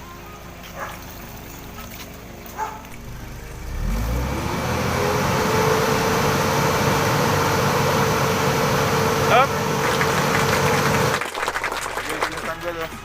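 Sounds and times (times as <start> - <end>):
van engine revving: 0.8 - 12.3.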